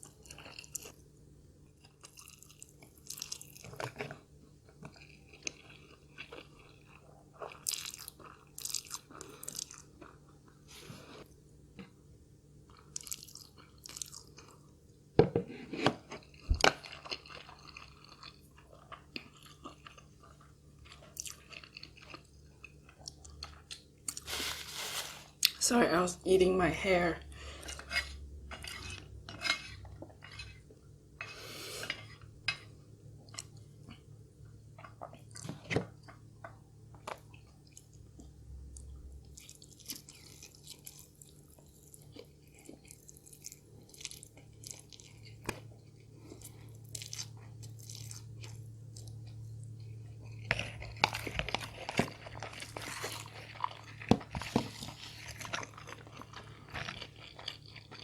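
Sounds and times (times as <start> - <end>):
person chewing and crunching food: 0.0 - 25.6, 26.5 - 58.0.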